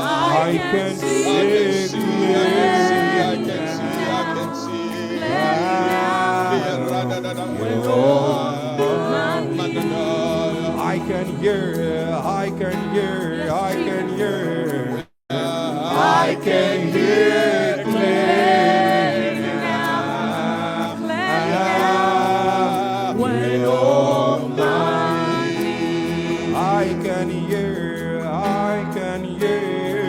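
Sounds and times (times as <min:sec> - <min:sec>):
people singing worship music: 0:00.0 - 0:30.0
sustained instrumental chords: 0:00.0 - 0:30.0.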